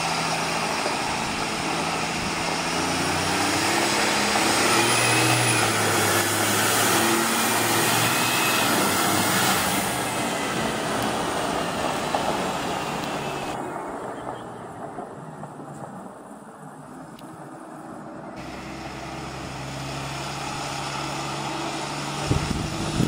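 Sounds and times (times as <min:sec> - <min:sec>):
diesel truck engine running: 0:00.0 - 0:23.0
tyres on gravel: 0:00.0 - 0:23.0.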